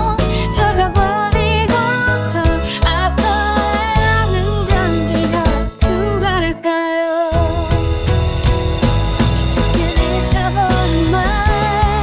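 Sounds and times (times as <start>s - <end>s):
pop ballad with drum beat: 0.0s - 6.6s, 7.2s - 12.0s.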